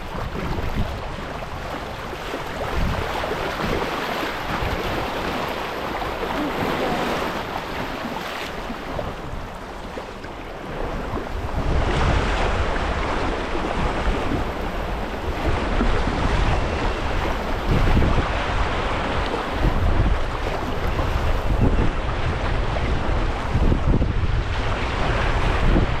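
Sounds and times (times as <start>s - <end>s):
moving water: 0.0s - 26.0s
wind buffeting microphone: 0.0s - 26.0s.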